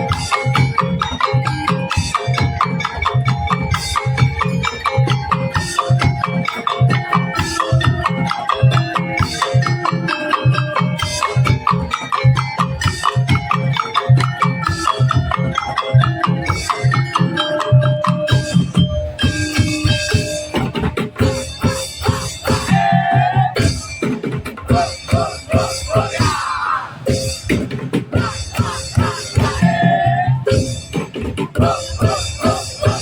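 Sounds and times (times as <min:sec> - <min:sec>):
ringing pitched notes: 0:00.0 - 0:26.4, 0:31.6 - 0:33.0
struck bamboo percussion: 0:00.0 - 0:33.0.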